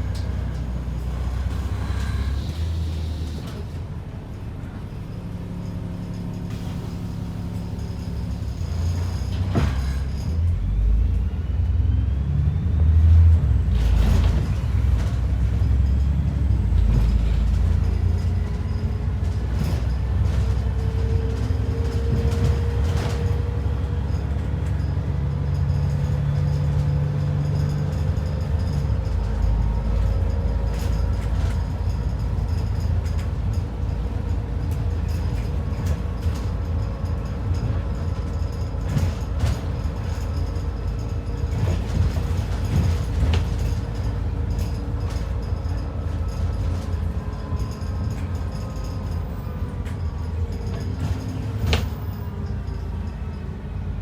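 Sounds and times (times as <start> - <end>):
bus diesel engine: 0.0 - 54.0
engine whine: 0.0 - 54.0
road rumble: 0.0 - 54.0.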